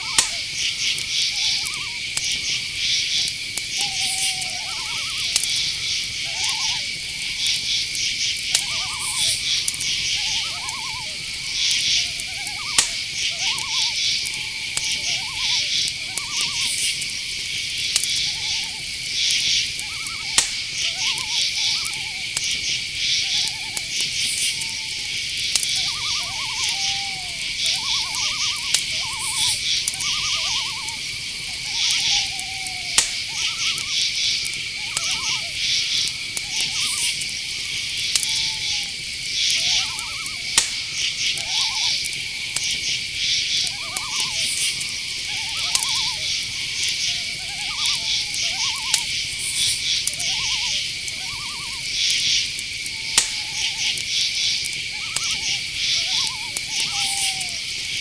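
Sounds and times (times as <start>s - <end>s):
cricket chirps: 0.0s - 58.0s
insects trilling: 0.0s - 58.0s
owls hooting: 0.0s - 58.0s
sharp ticks: 0.0s - 58.0s.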